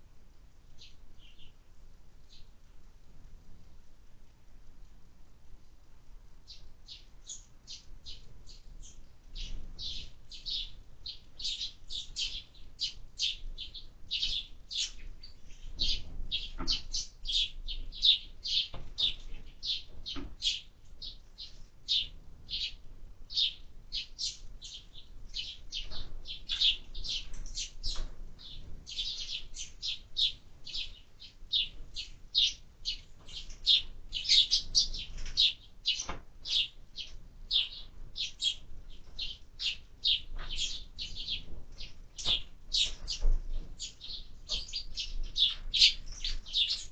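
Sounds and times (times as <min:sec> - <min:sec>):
sparrows chirping: 0:00.7 - 0:01.6, 0:02.2 - 0:02.5, 0:06.4 - 0:46.9.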